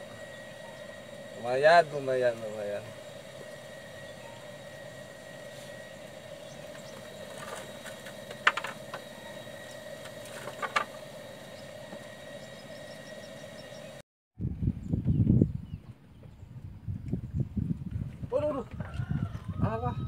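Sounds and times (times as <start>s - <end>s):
steady motor hum: 0.0s - 20.0s.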